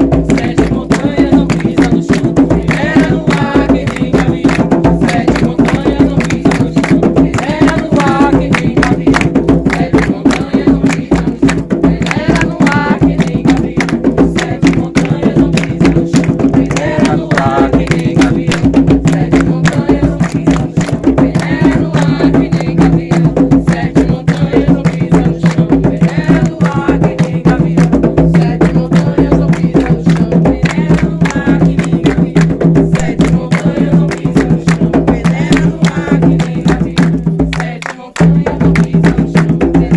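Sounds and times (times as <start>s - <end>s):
fast hand drum beating: 0.0s - 39.9s
group singing: 0.0s - 39.9s.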